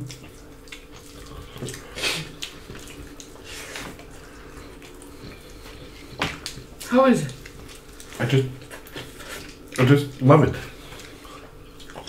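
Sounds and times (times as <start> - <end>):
wet chewing mouth sounds: 0.0 - 12.0.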